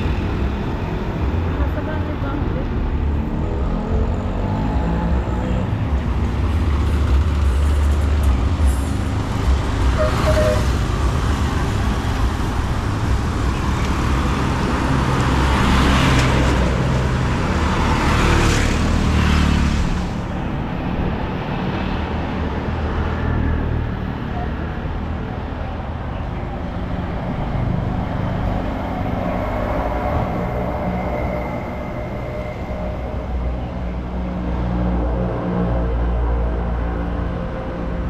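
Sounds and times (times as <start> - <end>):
vehicles passing close by: 0.0 - 38.0.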